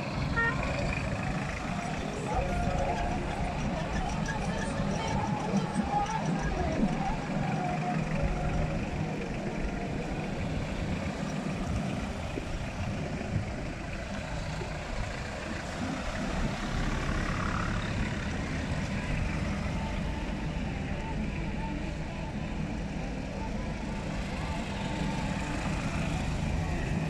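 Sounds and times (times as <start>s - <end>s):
cars driving slowly past: 0.0s - 27.0s.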